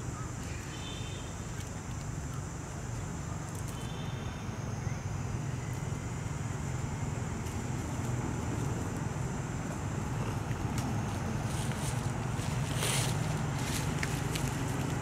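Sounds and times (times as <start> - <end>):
faint high-pitched hiss: 0.0 - 15.0.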